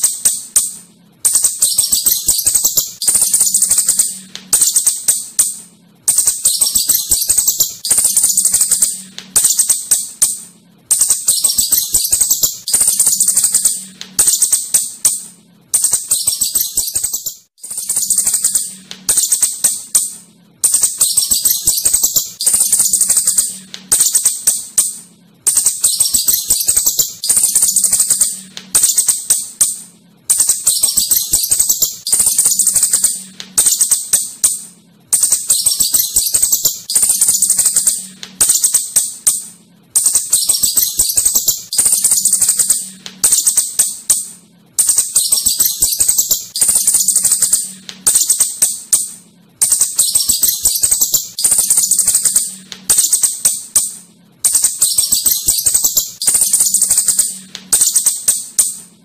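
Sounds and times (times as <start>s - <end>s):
shrew chattering: 0.0s - 58.9s.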